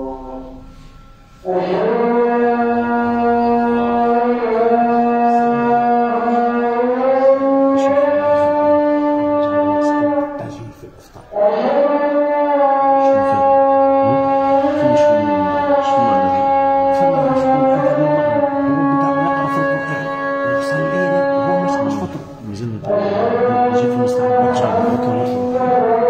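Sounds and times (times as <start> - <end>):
call to prayer singing: 1.4 - 26.0.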